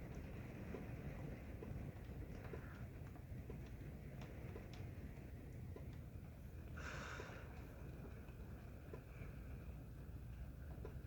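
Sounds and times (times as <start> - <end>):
light ticks: 0.0 - 6.4, 7.5 - 9.4, 10.2 - 11.0.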